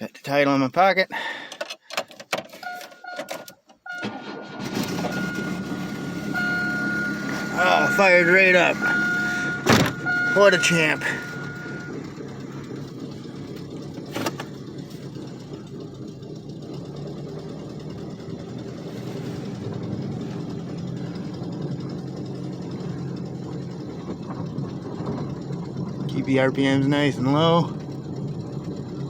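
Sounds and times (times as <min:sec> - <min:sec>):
car engine idling: 0:02.6 - 0:29.0.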